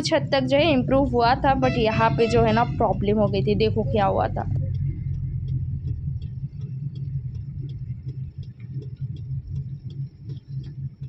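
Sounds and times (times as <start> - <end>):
car engine and road rumble: 0.0 - 11.0
light even ticking: 0.0 - 11.0.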